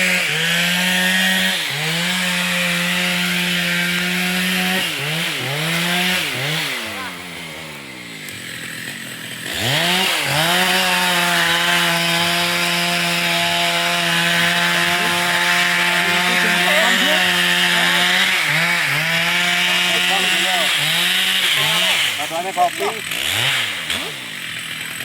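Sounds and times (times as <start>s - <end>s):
chainsaw cutting through wood: 0.0s - 25.0s.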